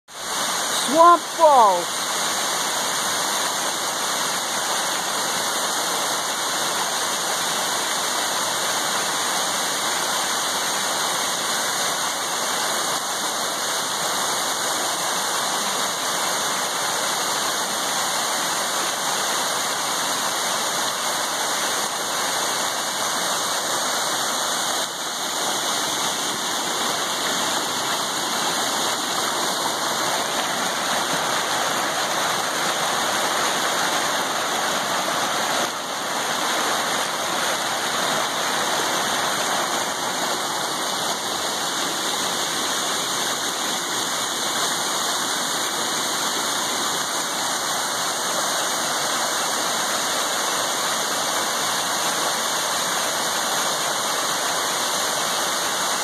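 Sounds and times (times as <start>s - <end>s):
creek water tumbling over rocks: 0.1s - 56.0s
small waterfall pouring into pool: 0.1s - 56.0s.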